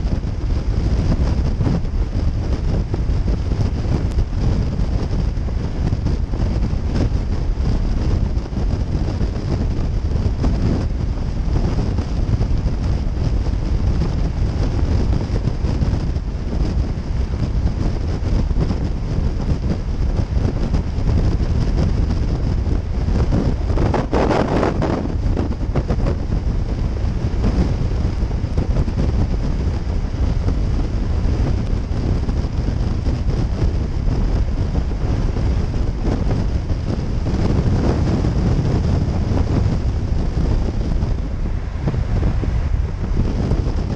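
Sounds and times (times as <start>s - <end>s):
road and engine noise: 0.0s - 43.9s
wind rushing over microphone: 0.0s - 43.9s.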